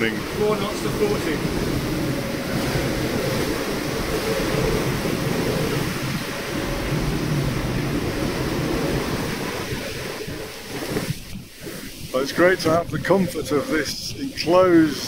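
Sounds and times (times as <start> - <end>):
breaking seas along hull: 0.0 - 15.0
wind buffeting microphone: 0.0 - 15.0.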